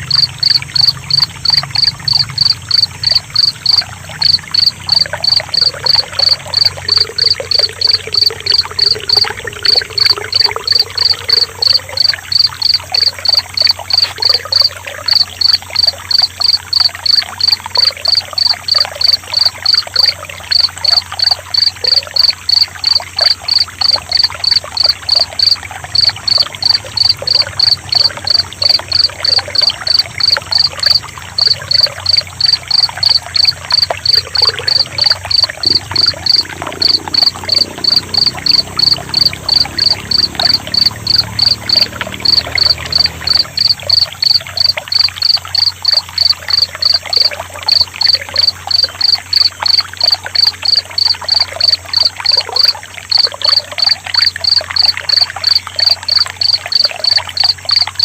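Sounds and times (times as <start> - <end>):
crickets chirping: 0.0 - 58.0
trickling water: 0.0 - 58.0.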